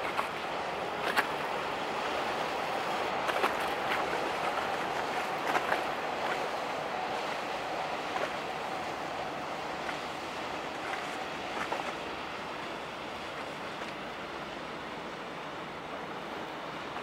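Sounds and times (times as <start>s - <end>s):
diesel engine noise: 0.0s - 17.0s
water wash rushing: 0.0s - 17.0s.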